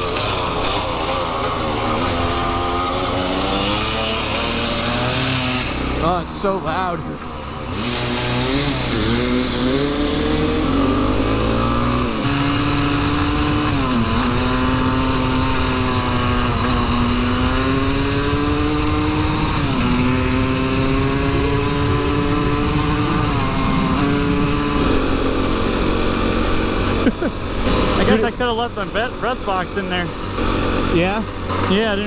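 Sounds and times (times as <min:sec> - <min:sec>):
dirt bike engine running: 0:00.0 - 0:32.0
low wind rumble: 0:00.0 - 0:32.0.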